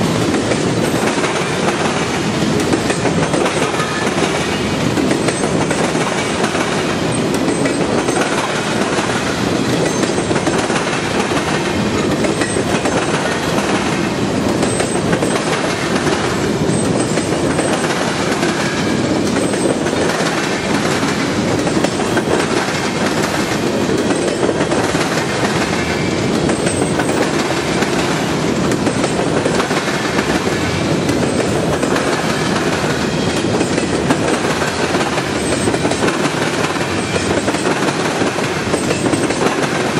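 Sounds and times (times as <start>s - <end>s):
train cars rumbling past: 0.0s - 39.9s
wheels clicking over rail joints: 0.1s - 39.9s.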